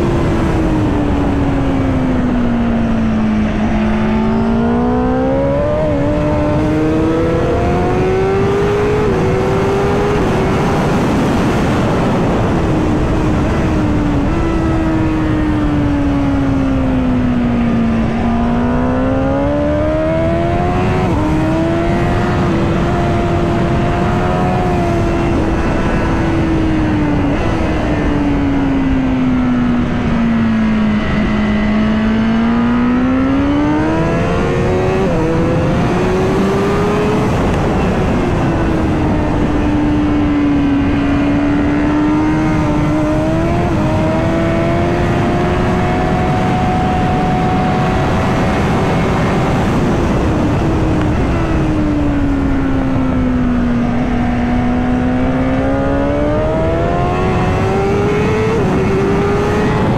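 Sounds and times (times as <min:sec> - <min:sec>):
motorcycle engine at speed: 0:00.0 - 0:59.9
wind rush: 0:00.0 - 0:59.9.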